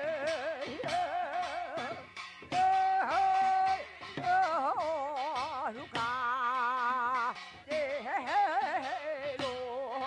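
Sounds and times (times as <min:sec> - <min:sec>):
person singing folk song: 0:00.0 - 0:10.0.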